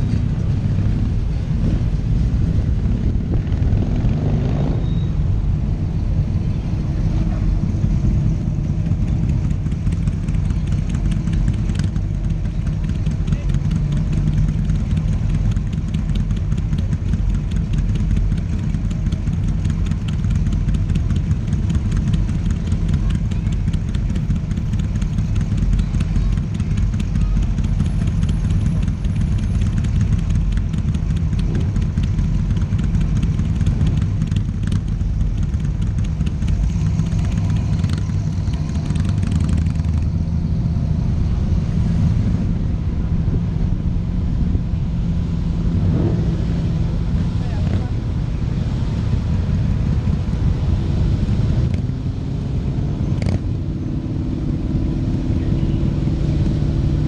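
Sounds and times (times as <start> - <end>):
car engine idling: 5.1 - 57.0.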